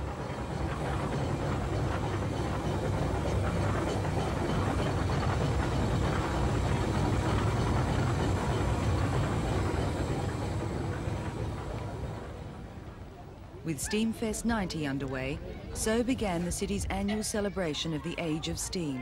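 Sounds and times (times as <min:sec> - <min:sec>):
steam traction engine rumble and clatter: 0:00.0 - 0:19.0.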